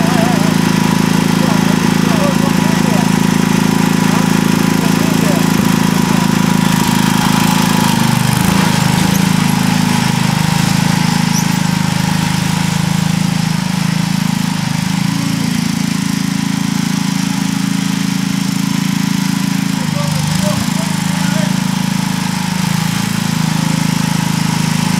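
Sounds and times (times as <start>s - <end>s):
garden tractor engine running: 0.0s - 24.9s.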